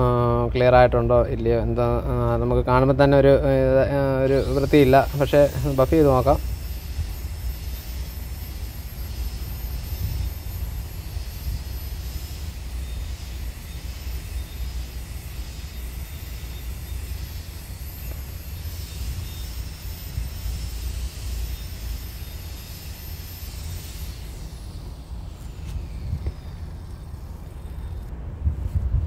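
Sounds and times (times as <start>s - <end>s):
handheld grinder running: 3.6s - 28.1s.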